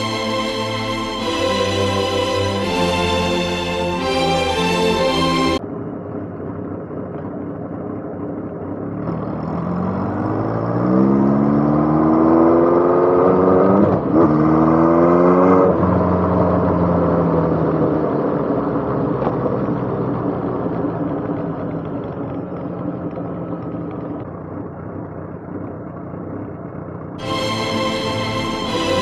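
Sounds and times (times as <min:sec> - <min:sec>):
road noise: 0:00.0 - 0:26.1.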